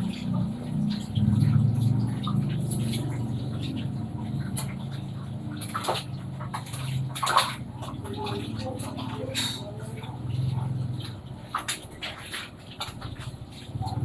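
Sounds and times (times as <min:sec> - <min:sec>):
washing machine humming: 0:00.0 - 0:14.0
water splashing in drum: 0:00.0 - 0:14.0.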